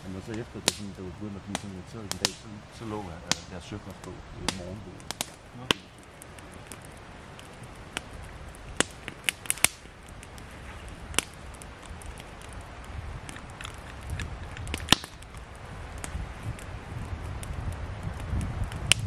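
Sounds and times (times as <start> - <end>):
campfire crackling: 0.0 - 19.0
fire pops and snaps: 0.0 - 19.0.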